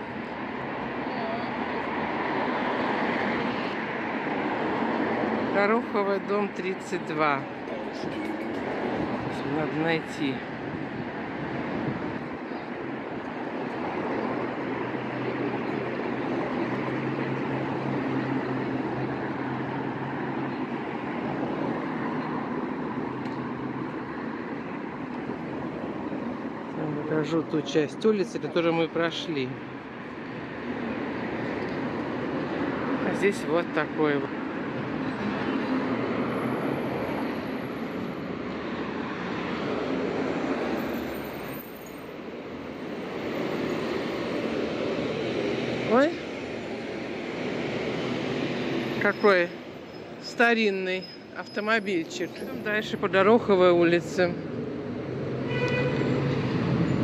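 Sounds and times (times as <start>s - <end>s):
cars passing: 0.0s - 57.0s
city street traffic hum: 0.0s - 57.0s.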